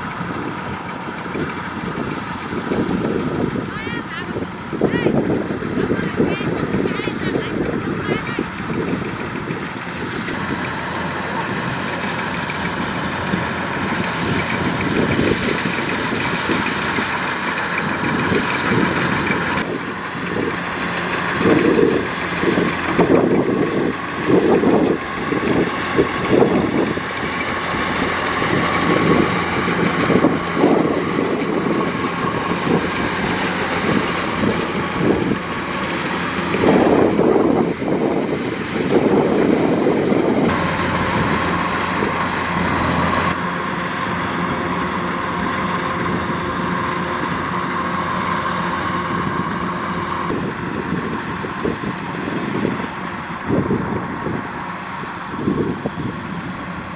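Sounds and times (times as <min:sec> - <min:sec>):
combine harvester engine droning: 0:00.0 - 0:56.9.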